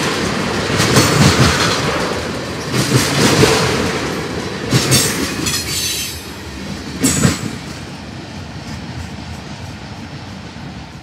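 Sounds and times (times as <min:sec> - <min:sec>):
train cars clanking: 0:00.0 - 0:10.3
freight train rolling past: 0:00.0 - 0:11.0.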